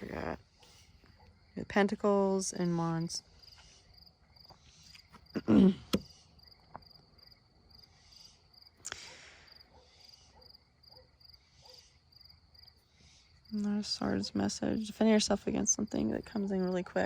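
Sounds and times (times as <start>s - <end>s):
cricket chirping: 0.2s - 16.7s.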